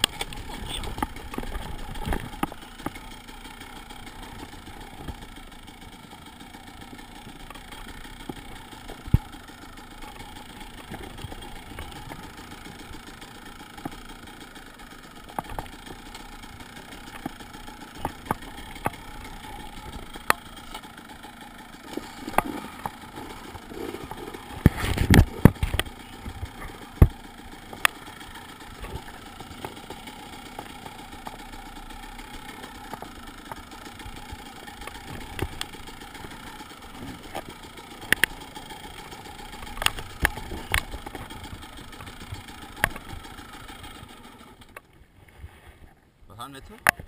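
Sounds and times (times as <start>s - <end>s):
motorcycle engine at low revs: 0.0s - 47.0s.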